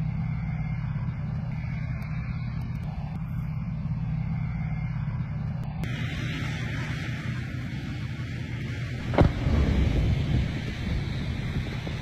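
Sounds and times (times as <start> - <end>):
heavy vehicle engines rumbling: 0.0 - 12.0.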